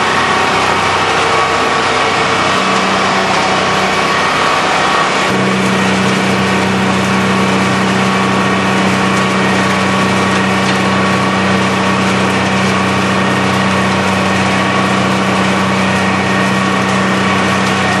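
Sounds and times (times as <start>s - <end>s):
wood crackling: 0.0s - 18.0s
wood grinder hum and roar: 0.0s - 18.0s.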